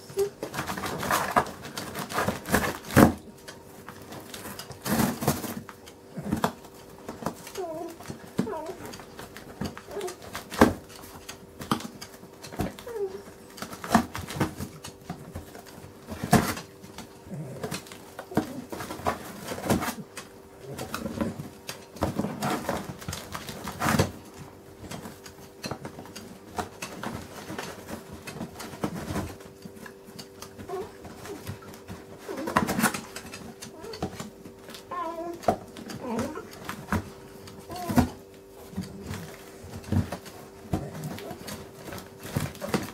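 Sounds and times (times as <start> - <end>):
dog tearing cardboard: 0.2 - 42.9.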